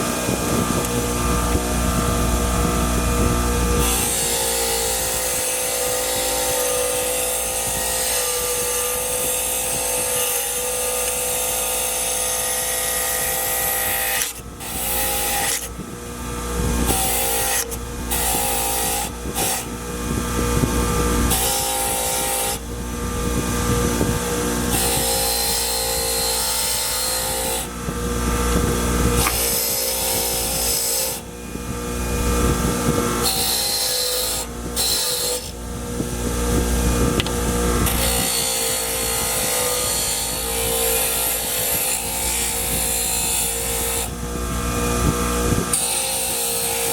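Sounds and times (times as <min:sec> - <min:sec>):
small power tool running: 0:00.0 - 0:46.9.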